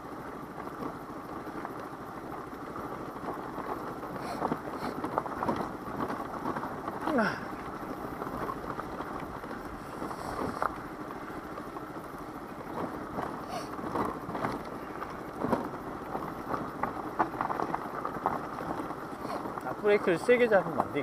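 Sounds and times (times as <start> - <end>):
tyres crunching over gravel: 0.0 - 21.0
wind and riding noise: 0.0 - 21.0.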